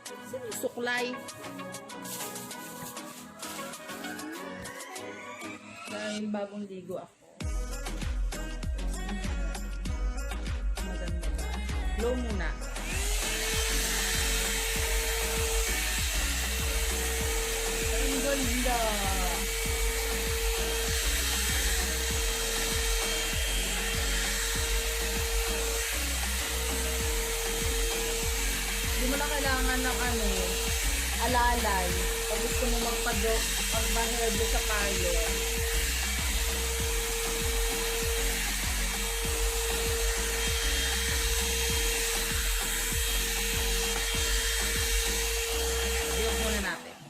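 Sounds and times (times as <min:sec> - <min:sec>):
background music with steady beat: 0:00.0 - 0:47.0
hair dryer brush running: 0:01.2 - 0:04.9, 0:11.9 - 0:47.0.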